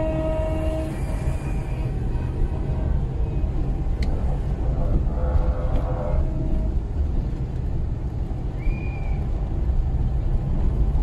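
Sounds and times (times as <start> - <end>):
car driving low rumble: 0.0 - 11.0.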